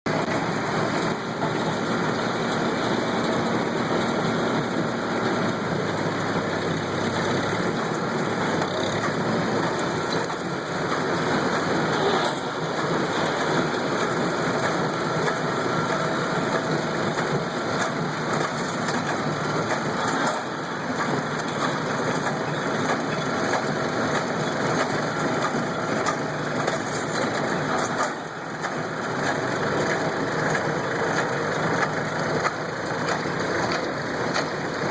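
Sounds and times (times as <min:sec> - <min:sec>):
tractor engine running: 0:00.0 - 0:34.9
hay baler mechanical clatter: 0:00.1 - 0:34.9.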